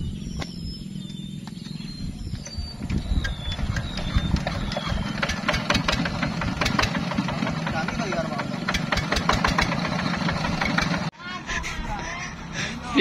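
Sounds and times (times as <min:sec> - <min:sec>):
combine harvester diesel engine: 0:00.9 - 0:13.0.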